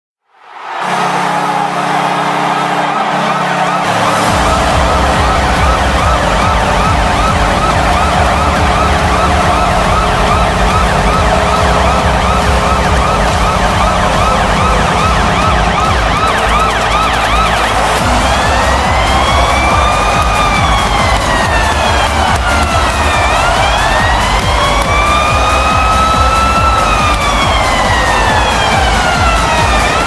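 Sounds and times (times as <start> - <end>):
goal horn long blast: 0.3 - 30.0
siren-like synth sweeps: 0.7 - 30.0
dance track with pounding bass: 1.2 - 30.0.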